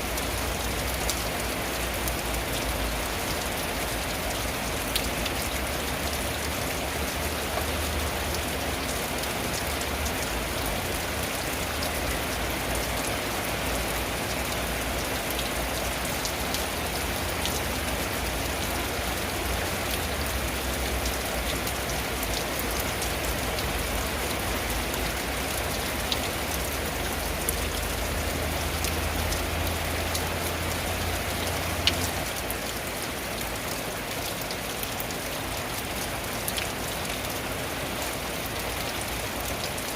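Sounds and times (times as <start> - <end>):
rain drumming on a tin roof: 0.0 - 39.9.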